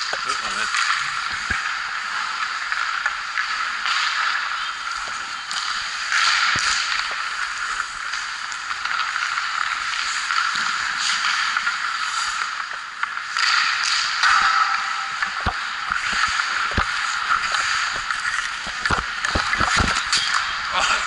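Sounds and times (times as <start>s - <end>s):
hockey stick tapping puck: 0.0s - 21.0s
skate blades scraping on ice: 0.0s - 21.0s.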